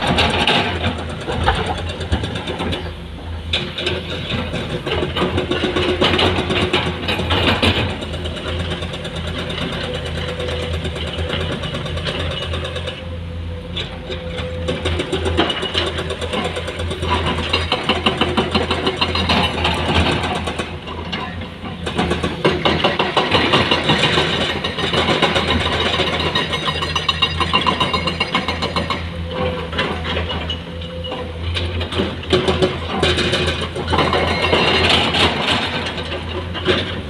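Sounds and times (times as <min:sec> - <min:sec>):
excavator diesel engine working: 0:00.0 - 0:37.0.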